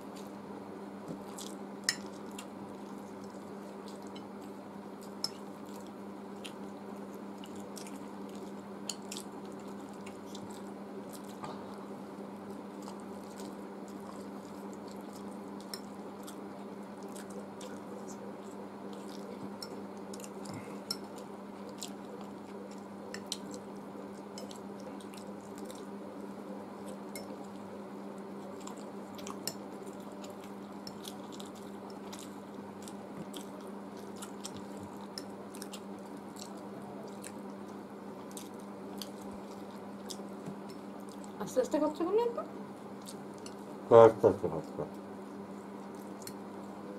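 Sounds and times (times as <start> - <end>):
people chewing noodles: 1.0 - 41.4, 42.6 - 46.9.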